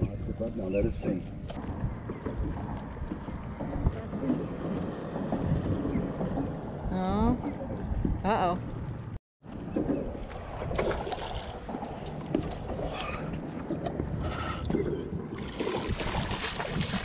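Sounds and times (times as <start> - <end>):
wind buffeting microphone: 0.0 - 17.0
water lapping at boat: 0.1 - 17.0.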